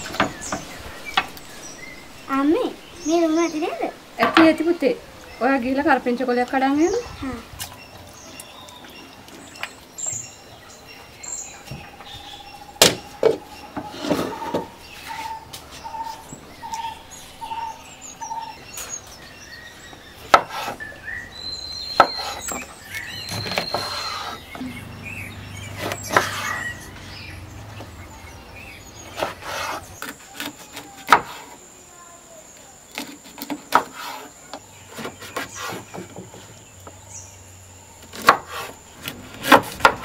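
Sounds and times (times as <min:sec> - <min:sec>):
birds chirping and whistling: 0:00.0 - 0:31.5, 0:32.5 - 0:40.0.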